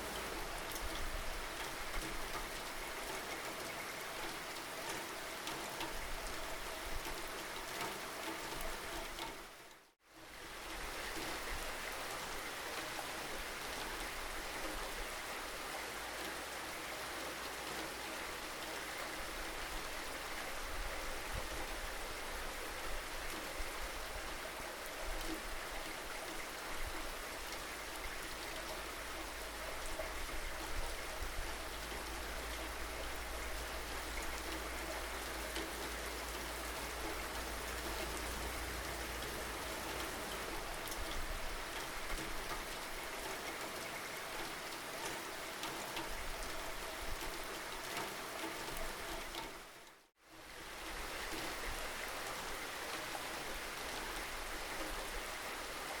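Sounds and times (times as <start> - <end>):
louder raindrops: 0.0 - 56.0
steady rain falling: 0.0 - 56.0.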